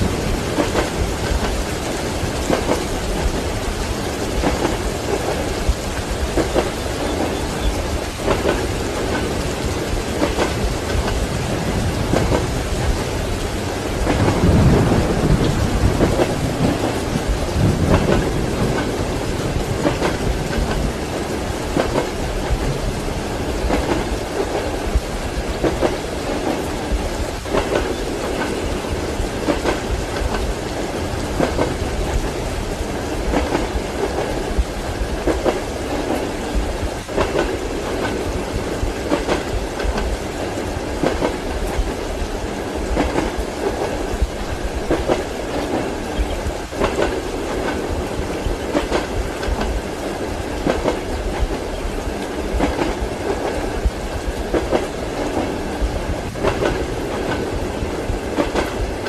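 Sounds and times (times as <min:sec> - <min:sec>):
steady rain: 0:00.0 - 0:59.0
thunder rolling: 0:00.0 - 0:59.0
train wheels knocking on rail joints: 0:00.0 - 0:59.0.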